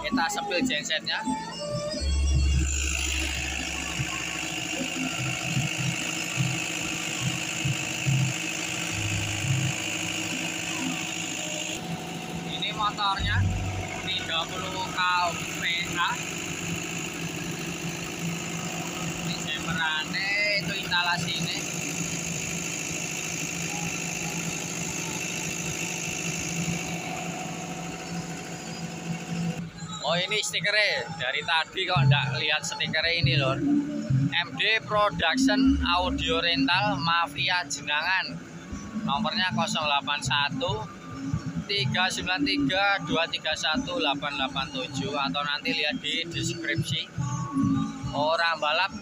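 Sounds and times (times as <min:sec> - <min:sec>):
diesel generator running: 0:00.0 - 0:49.0.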